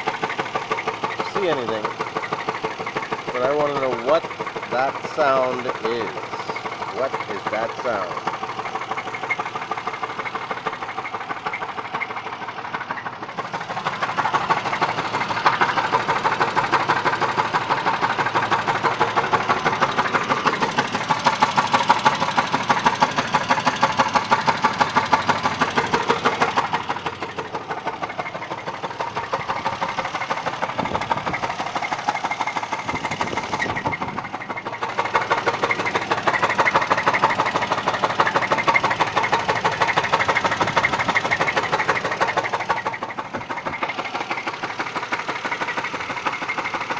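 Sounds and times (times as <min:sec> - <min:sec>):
engine idling with knock: 0:00.0 - 0:46.9.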